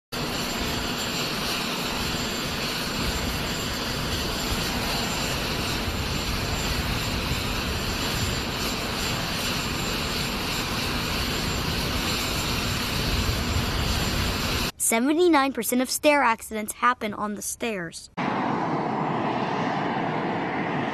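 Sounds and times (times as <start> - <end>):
jet engines running: 0.1 - 16.8, 18.1 - 20.9
constant low hum: 0.2 - 14.8, 18.2 - 20.9.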